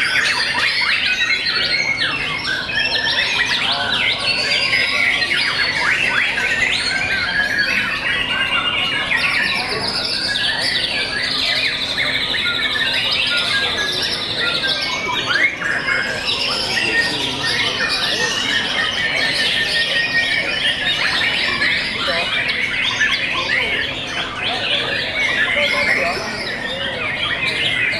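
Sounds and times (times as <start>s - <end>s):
birds singing whistles and trills: 0.0s - 27.9s.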